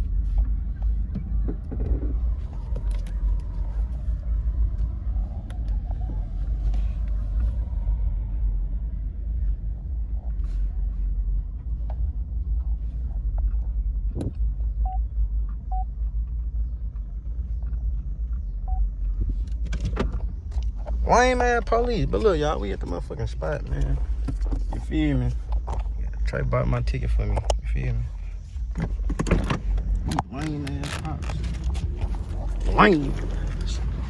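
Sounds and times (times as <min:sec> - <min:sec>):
car rumbling: 0:00.0 - 0:34.0.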